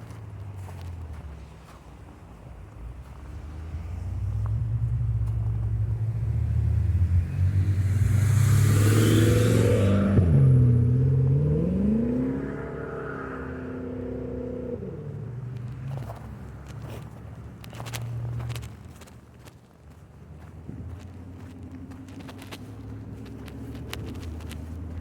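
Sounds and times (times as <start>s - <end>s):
vehicle engine accelerating: 0.0s - 19.5s, 20.3s - 25.0s.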